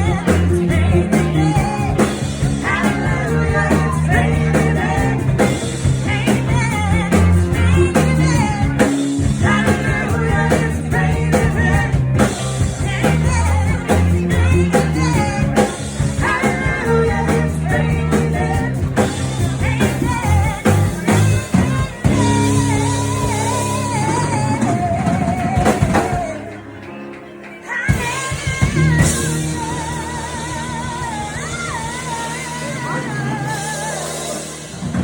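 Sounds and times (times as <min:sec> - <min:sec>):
woman singing lead vocal: 0:00.0 - 0:26.6, 0:27.6 - 0:35.0
drum kit: 0:00.0 - 0:35.0
electric guitar: 0:00.0 - 0:35.0.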